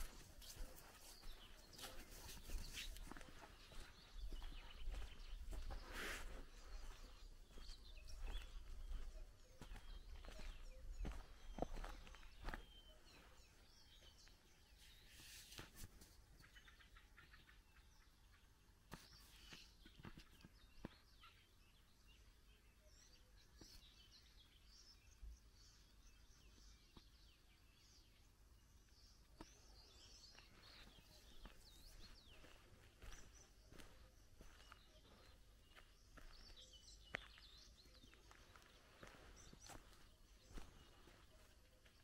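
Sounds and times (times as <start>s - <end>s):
faint birdsong: 0.0s - 42.0s.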